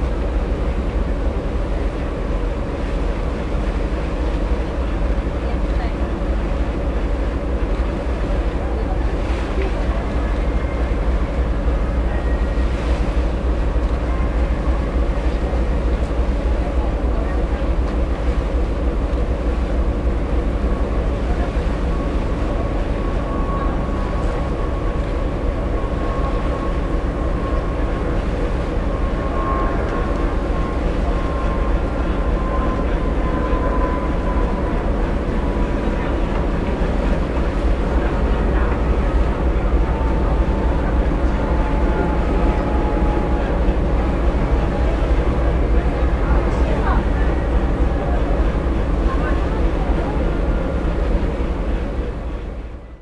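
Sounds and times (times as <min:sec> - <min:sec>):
ship engine rumble: 0:00.0 - 0:53.0.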